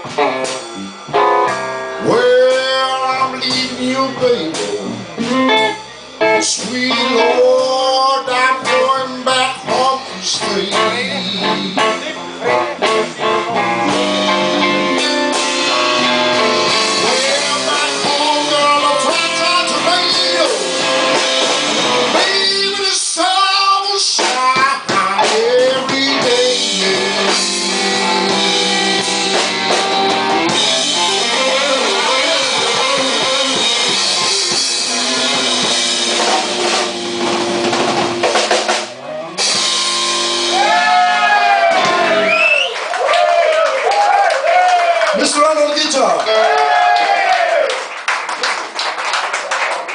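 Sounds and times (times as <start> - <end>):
lead electric guitar bent notes: 0.0 - 42.5
drum kit: 0.0 - 47.4
blues band playing: 0.0 - 49.9.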